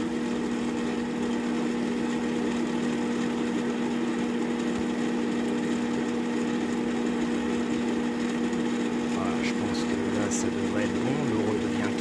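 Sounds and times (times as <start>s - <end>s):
pump humming: 0.0s - 12.0s.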